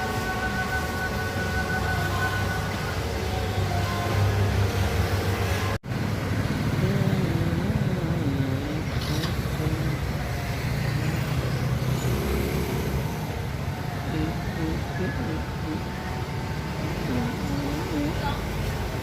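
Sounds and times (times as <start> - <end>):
passing cars and motorbikes: 0.0 - 19.0.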